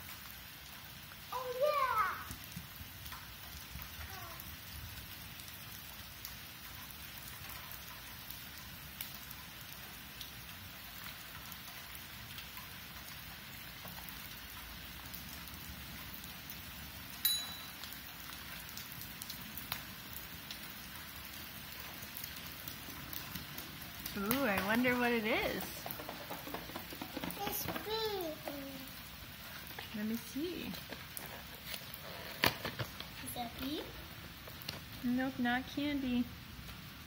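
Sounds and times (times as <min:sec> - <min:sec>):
rain on concrete: 0:00.0 - 0:37.0.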